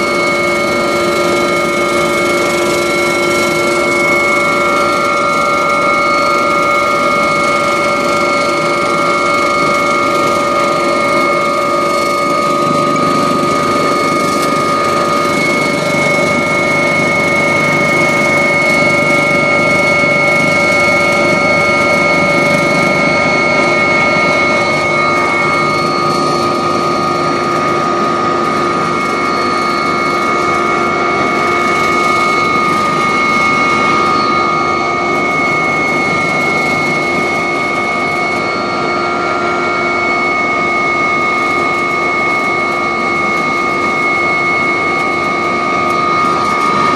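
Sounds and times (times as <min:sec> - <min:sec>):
helicopter turbine and rotor: 0:00.0 - 0:46.9
high whining tones: 0:00.0 - 0:46.9.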